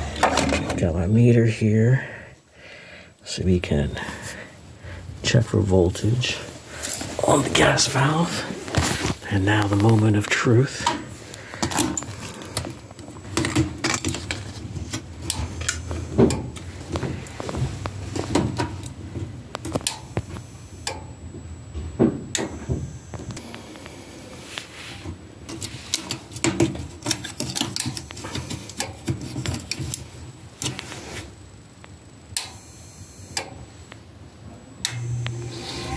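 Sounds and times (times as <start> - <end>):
low hum: 3.4 - 26.2, 29.6 - 35.9.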